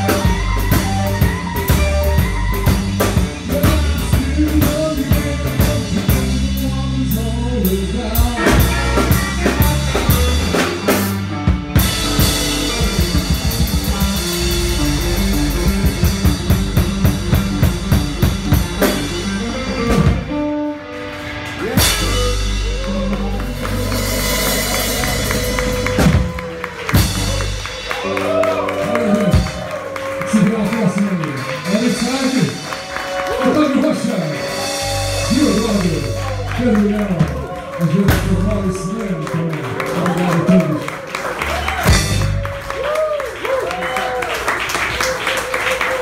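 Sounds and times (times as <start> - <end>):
live blues band: 0.0 - 46.0.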